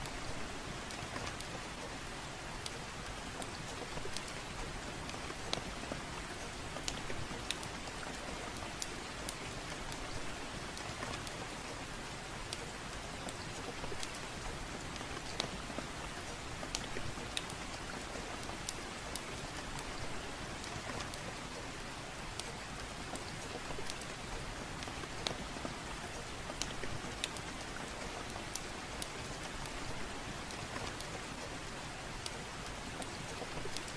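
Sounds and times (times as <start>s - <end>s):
soft steady rain: 0.0s - 33.9s
wood fire crackling: 0.0s - 33.9s.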